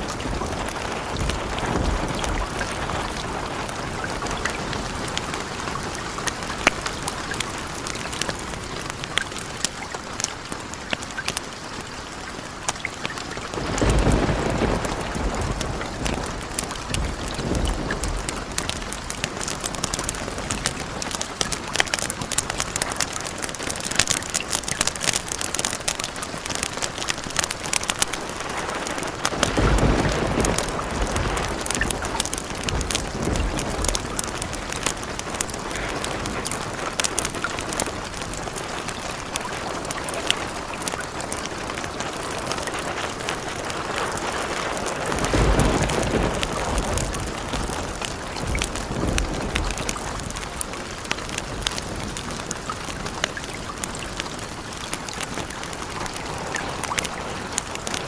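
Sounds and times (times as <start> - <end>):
thunder rumbling: 0.0 - 9.4, 13.2 - 23.8, 28.2 - 58.0
steady rain hissing: 0.0 - 58.0.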